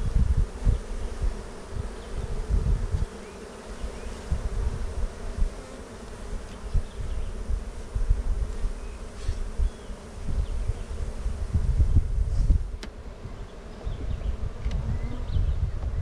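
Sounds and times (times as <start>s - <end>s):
bees buzzing: 0.0s - 15.7s.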